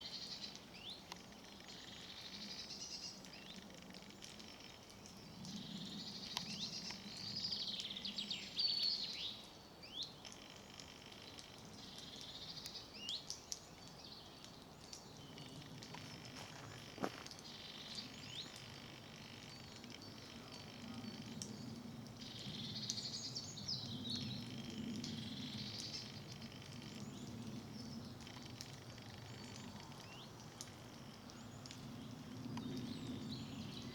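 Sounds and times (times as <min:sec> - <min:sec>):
songbirds twittering: 0:00.0 - 0:33.9.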